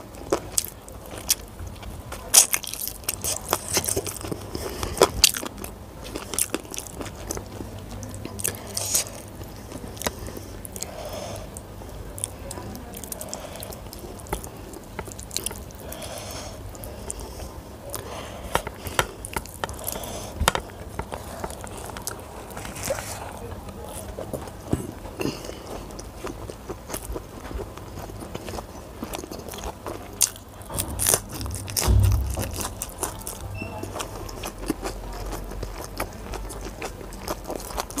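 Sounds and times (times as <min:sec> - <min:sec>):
close chewing: 0:00.0 - 0:38.0.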